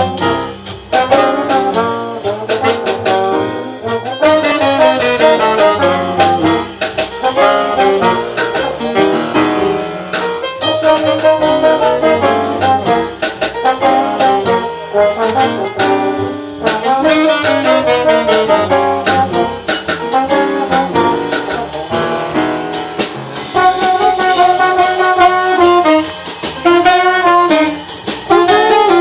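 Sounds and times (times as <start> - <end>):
saxophone: 0.0 - 9.8, 10.6 - 21.7, 23.5 - 29.0
drums keeping a steady beat: 0.0 - 29.0
piano: 0.0 - 29.0
trombone: 0.0 - 29.0
upright double bass: 0.0 - 29.0.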